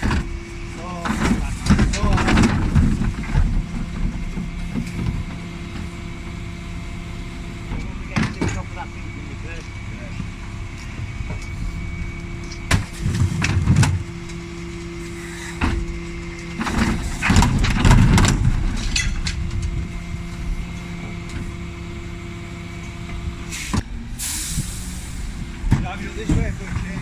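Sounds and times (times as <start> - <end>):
bin lorry engine running: 0.0 - 27.0.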